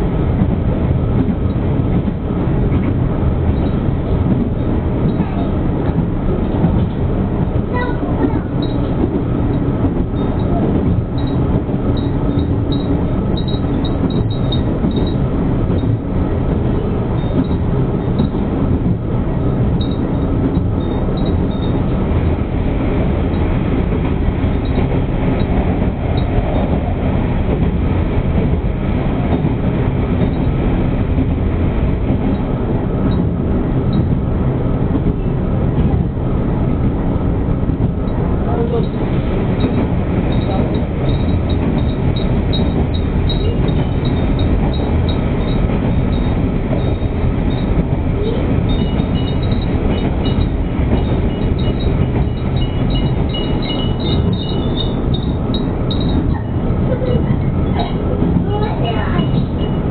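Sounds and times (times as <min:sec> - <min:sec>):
railcar engine noise: 0:00.0 - 0:59.9
wheels on rails: 0:00.0 - 0:59.9.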